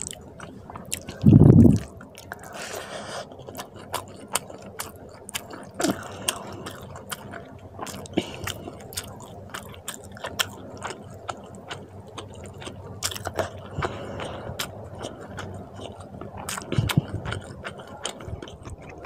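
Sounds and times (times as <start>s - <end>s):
wet chewing and lip smacking: 0.0s - 19.0s.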